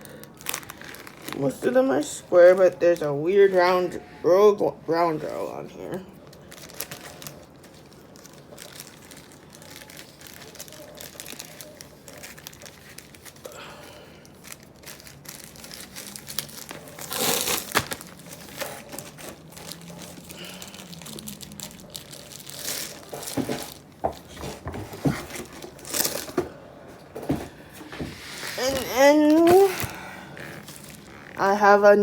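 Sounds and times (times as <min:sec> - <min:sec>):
plastic packaging crinkling: 0:00.0 - 0:03.1, 0:05.1 - 0:32.0.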